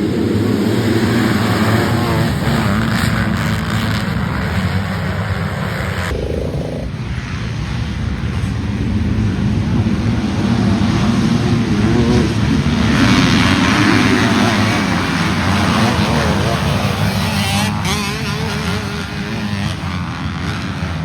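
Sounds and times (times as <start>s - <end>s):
dirt bike engines running: 0.0s - 21.0s.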